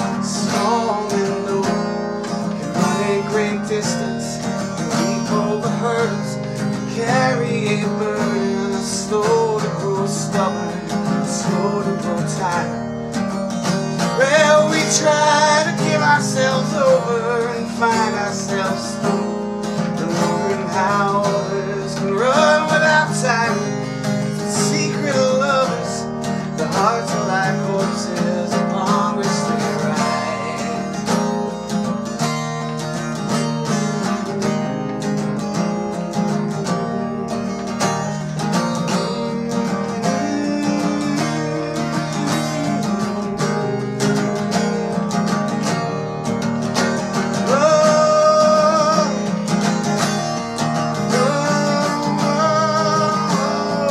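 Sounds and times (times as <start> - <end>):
person singing: 0.0 - 13.0, 13.7 - 31.6, 35.9 - 45.1, 46.8 - 53.9
acoustic guitar strumming: 0.0 - 53.9.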